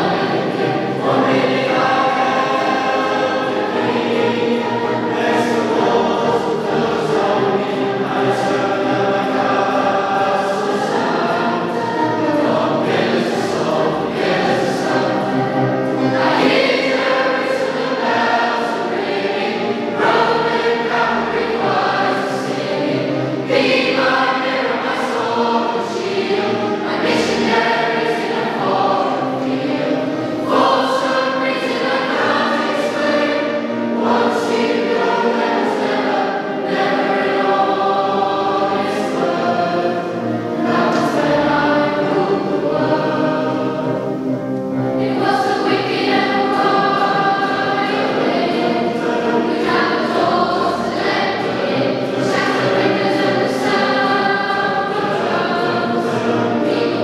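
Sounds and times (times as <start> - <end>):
children's choir singing: 0.0 - 57.0
piano accompaniment: 0.0 - 57.0.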